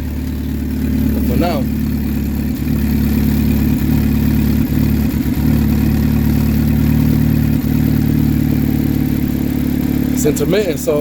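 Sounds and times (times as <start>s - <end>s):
car engine idling with stumbles: 0.0s - 11.0s.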